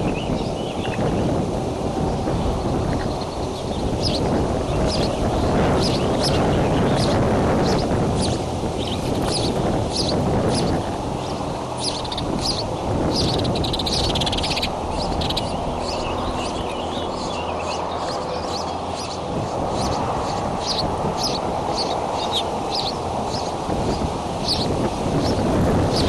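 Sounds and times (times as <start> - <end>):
birds chirping: 0.0 - 26.0
wind on microphone: 0.0 - 26.0.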